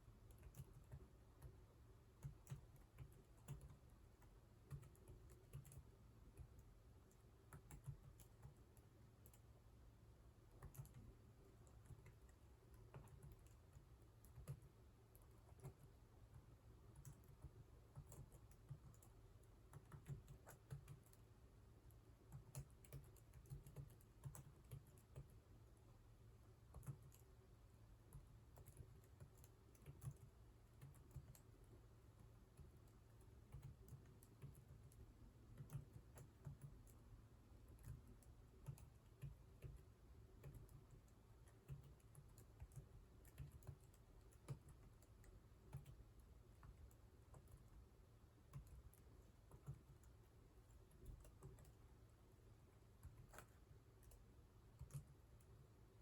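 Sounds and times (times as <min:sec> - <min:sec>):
typing on computer keyboard: 0:00.2 - 0:09.5, 0:10.5 - 0:21.3, 0:22.2 - 0:25.4, 0:26.7 - 0:27.4, 0:28.1 - 0:51.9, 0:52.8 - 0:55.7.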